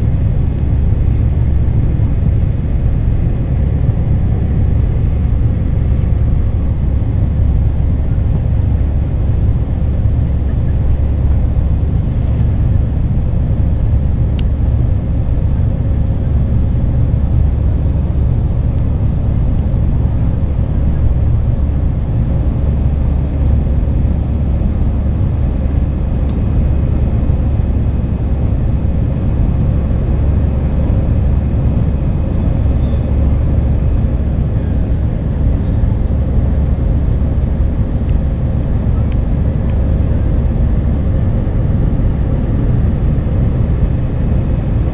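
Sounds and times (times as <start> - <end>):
aircraft engine rumble in cabin: 0.0 - 44.9
faint steady hum: 0.0 - 44.9.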